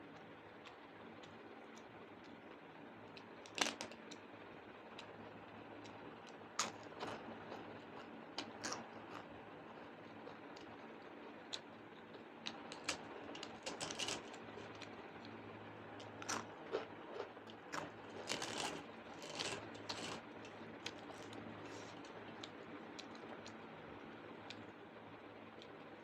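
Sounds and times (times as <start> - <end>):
faint steady hum: 0.0 - 26.0
chewing and crunching: 0.1 - 4.2, 4.9 - 24.8.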